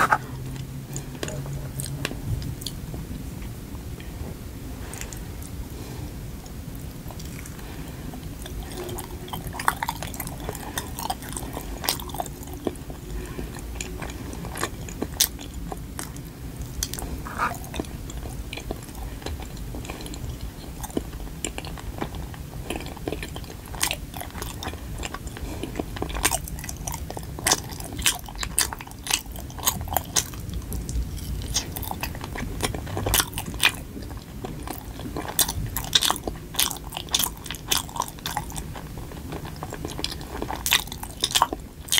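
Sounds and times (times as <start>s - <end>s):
sticky wet chewing: 7.0s - 41.9s.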